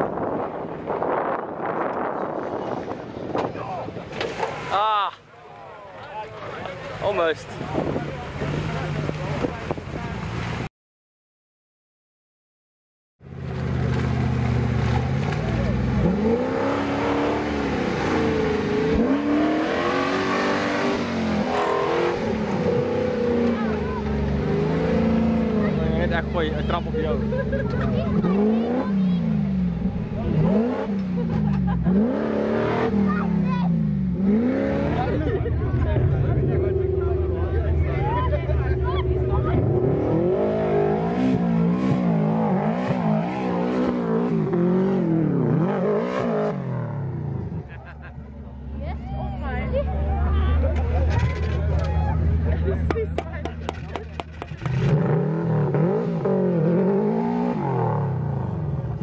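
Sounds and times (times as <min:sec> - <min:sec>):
off-road vehicle engine revving: 0:06.4 - 0:10.7, 0:13.3 - 0:59.0.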